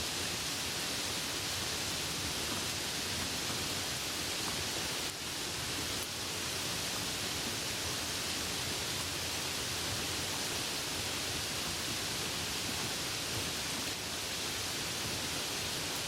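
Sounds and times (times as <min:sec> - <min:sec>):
soft steady rain: 0:00.0 - 0:16.0.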